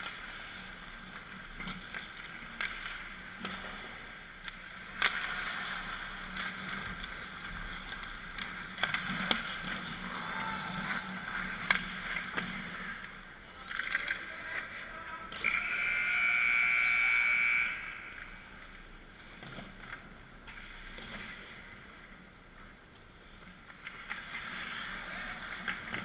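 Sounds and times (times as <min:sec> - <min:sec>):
hockey sticks and puck clacking: 0:00.0 - 0:21.8, 0:23.5 - 0:26.0
skates scraping on ice: 0:00.0 - 0:22.1, 0:23.5 - 0:26.0.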